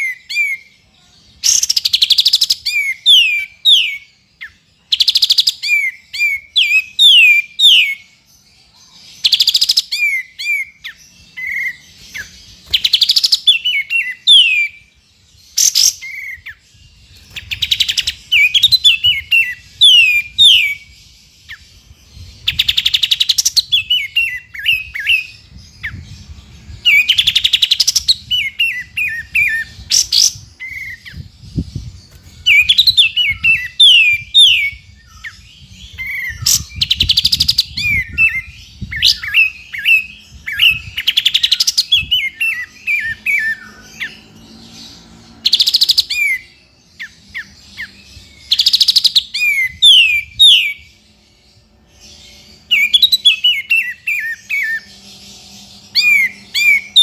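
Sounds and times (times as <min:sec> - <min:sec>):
bird chirps: 0:00.0 - 0:57.0.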